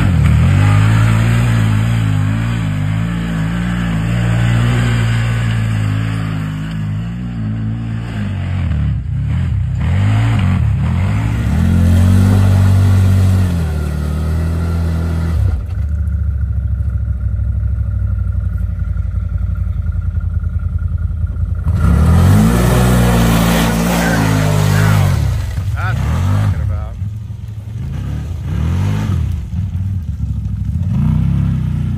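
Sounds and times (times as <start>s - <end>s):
side-by-side engine revving: 0.0s - 31.9s.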